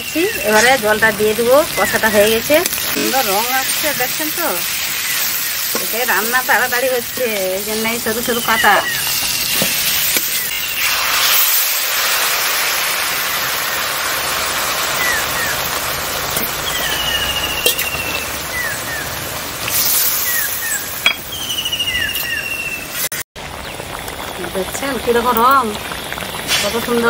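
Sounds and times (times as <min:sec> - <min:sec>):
curry sizzling and bubbling: 0:00.0 - 0:27.0.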